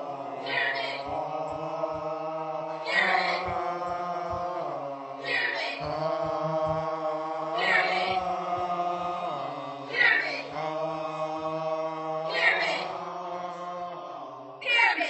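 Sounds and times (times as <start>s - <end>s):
man chanting on one pitch: 0.0s - 15.0s.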